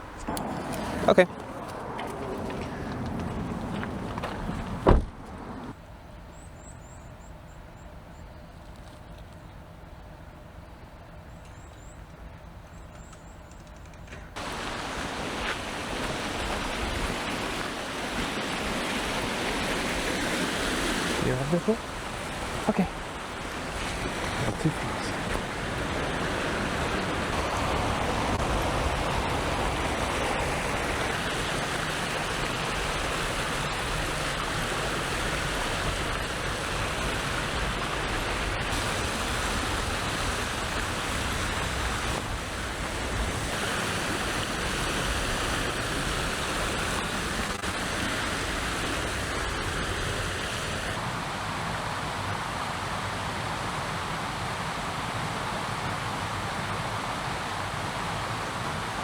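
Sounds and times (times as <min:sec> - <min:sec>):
mountain stream rushing: 0:00.0 - 0:05.8, 0:14.4 - 0:59.0.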